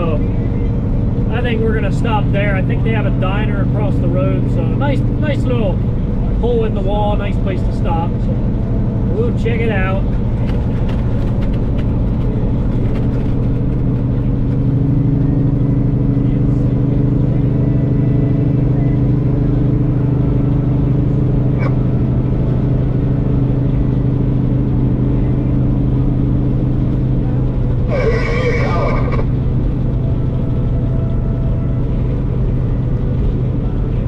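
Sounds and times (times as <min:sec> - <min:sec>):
road noise: 0:00.0 - 0:34.0
truck diesel engine drone: 0:00.0 - 0:34.0.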